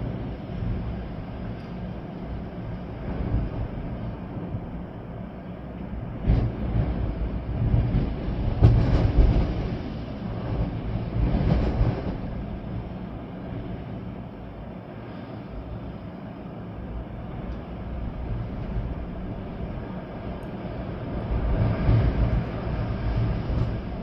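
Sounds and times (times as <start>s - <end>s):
rain: 0.0s - 24.0s
storm wind gusting: 0.0s - 24.0s.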